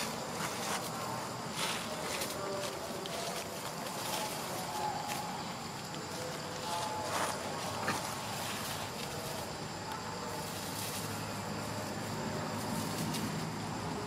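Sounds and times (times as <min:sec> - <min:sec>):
background hiss: 0:00.0 - 0:14.0
rustling of dry leaves underfoot: 0:00.0 - 0:14.0.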